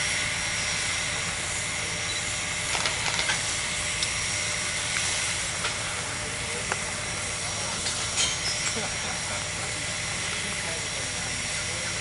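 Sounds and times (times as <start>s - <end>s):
steam hissing with high ring: 0.0s - 12.0s.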